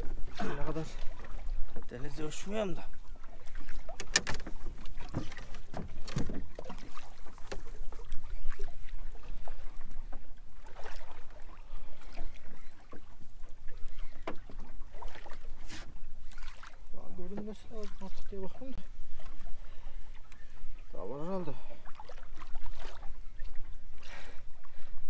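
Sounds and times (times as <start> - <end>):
water slapping against hull: 0.0 - 25.0.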